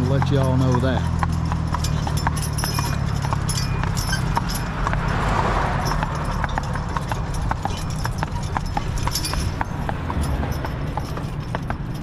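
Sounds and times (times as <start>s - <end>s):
hooves clip-clopping on asphalt: 0.0s - 12.0s.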